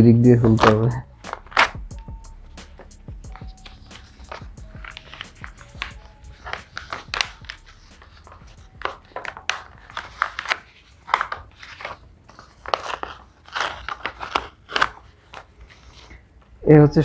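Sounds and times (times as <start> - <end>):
paper tearing and crinkling: 0.5 - 1.8, 3.6 - 16.3.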